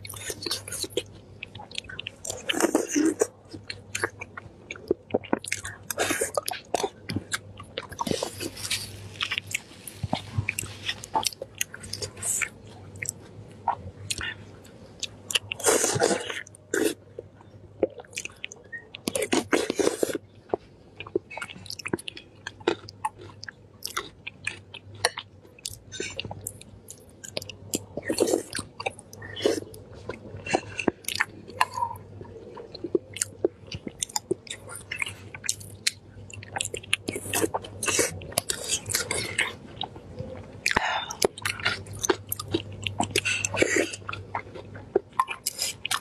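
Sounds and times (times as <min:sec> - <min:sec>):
low steady hum: 0:00.0 - 0:46.0
woman chewing food: 0:00.0 - 0:46.0.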